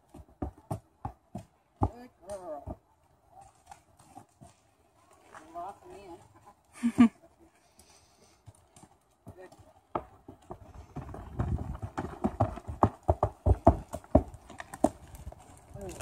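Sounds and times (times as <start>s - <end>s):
horse hooves clopping on wooden planks: 0.0s - 16.0s.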